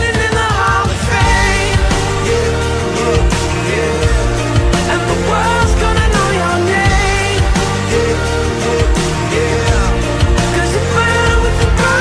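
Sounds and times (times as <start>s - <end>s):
instrumental pop song: 0.0s - 12.0s.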